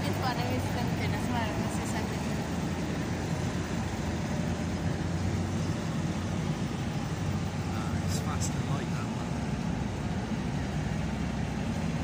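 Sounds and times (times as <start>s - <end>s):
tracked vehicle engine droning: 0.0s - 12.0s.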